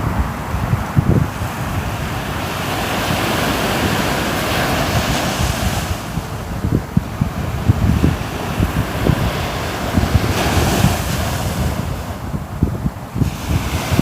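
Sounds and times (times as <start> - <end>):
low rumble of sea: 0.0 - 14.0
wave washing in: 0.0 - 14.0.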